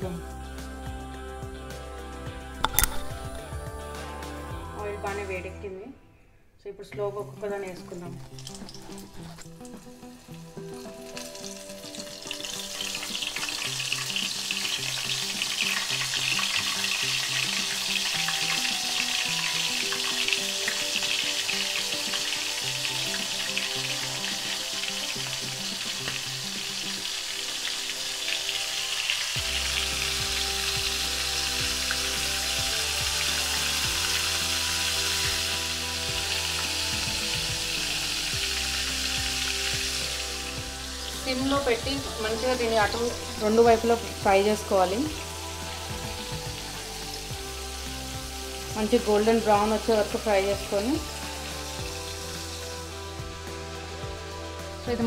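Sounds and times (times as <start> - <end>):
prawns deep-frying in oil: 7.5 - 55.0.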